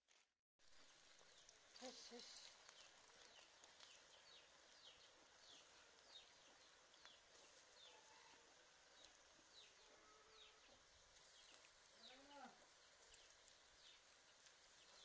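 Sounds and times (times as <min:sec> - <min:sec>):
food sizzling in oil: 0:00.1 - 0:15.0
bird chirping: 0:00.9 - 0:15.0.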